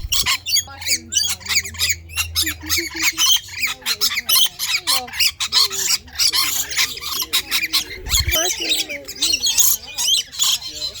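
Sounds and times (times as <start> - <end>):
lorikeets screeching: 0.0 - 11.0.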